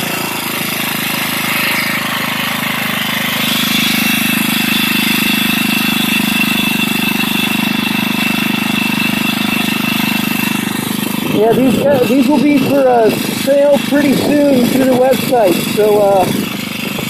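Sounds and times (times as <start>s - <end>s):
motorbike engine idling: 0.0s - 17.0s.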